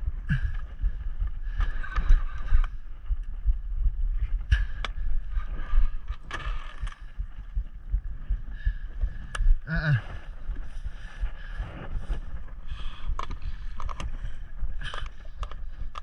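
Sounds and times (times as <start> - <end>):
wind and boat rumble: 0.0 - 16.0.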